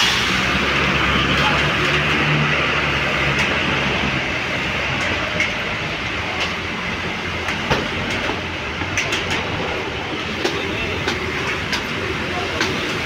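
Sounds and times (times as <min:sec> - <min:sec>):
tyres hissing on wet road: 0:00.0 - 0:13.0.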